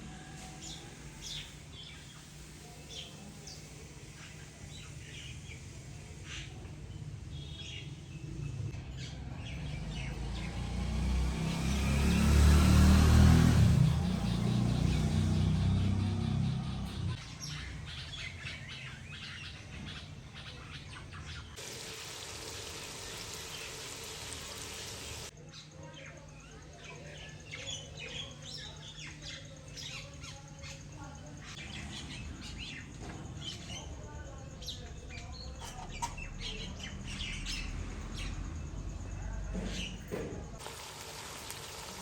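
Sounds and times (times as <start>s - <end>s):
small birds chirping: 0.1s - 42.0s.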